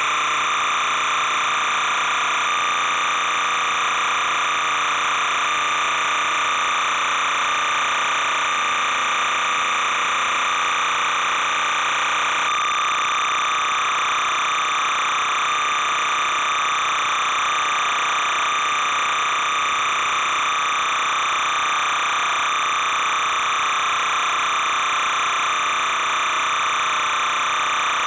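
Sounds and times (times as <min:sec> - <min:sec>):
constant buzzing tone: 0:00.0 - 0:28.0.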